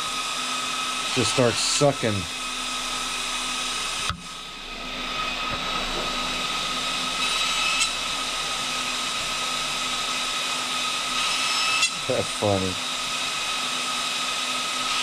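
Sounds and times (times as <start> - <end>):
electric fans whining: 0.0 - 15.0.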